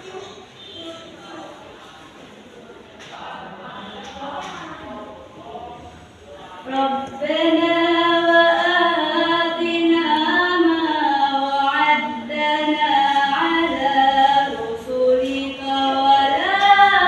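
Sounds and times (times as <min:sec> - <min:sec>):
woman reciting melodically: 0:03.0 - 0:17.0.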